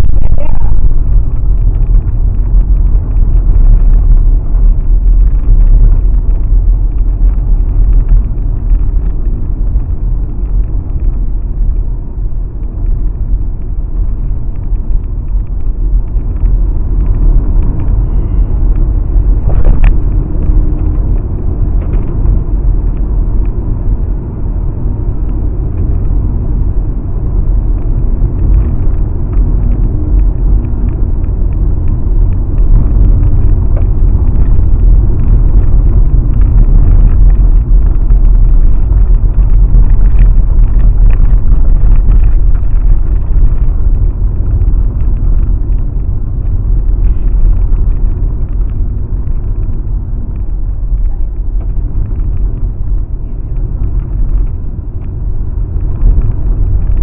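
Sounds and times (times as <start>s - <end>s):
car rumbling on dirt road: 0.0s - 57.0s.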